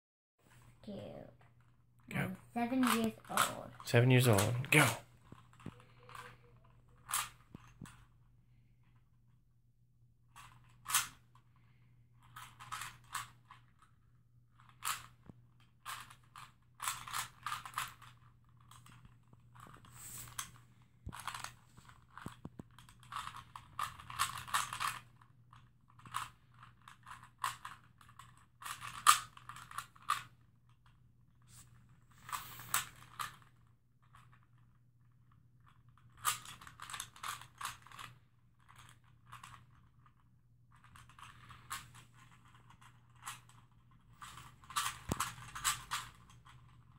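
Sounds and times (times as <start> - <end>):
puzzle cube clicking and rattling: 2.6 - 8.2, 10.3 - 46.9.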